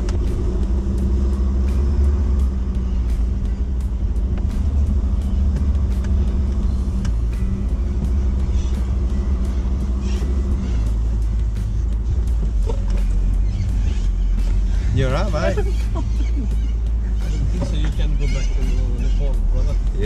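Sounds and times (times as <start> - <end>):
knocks and rattles of vehicle: 0.0 - 20.0
vehicle engine rumbling: 0.0 - 20.0.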